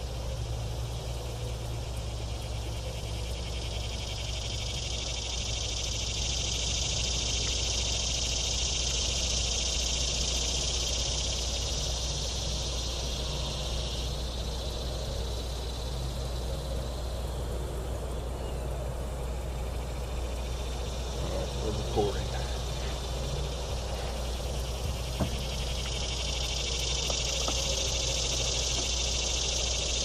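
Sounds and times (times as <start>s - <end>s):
insects calling: 0.0s - 30.0s.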